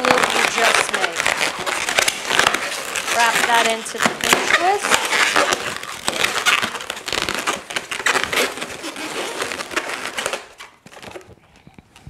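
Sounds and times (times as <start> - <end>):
balloons rubbing together: 0.0 - 12.0.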